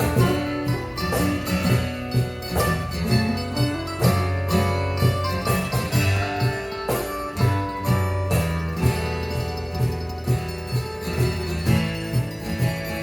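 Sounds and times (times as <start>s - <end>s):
guitar: 0.0s - 13.0s
steady drum beat: 0.0s - 13.0s
sustained bass notes: 0.0s - 13.0s.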